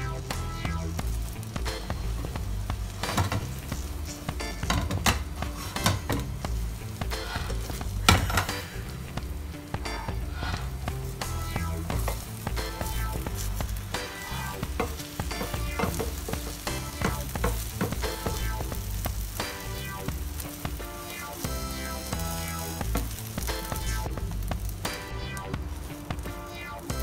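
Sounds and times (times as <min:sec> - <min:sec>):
egg sizzling in frying pan: 0:00.0 - 0:27.0.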